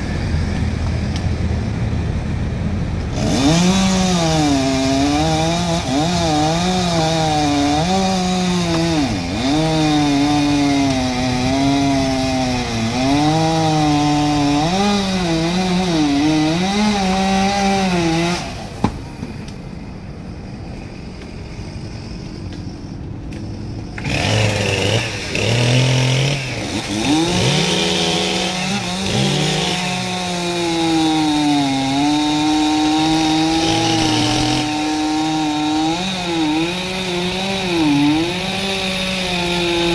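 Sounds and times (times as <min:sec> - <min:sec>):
chainsaw cutting wood: 0:03.1 - 0:19.4, 0:23.3 - 0:39.9.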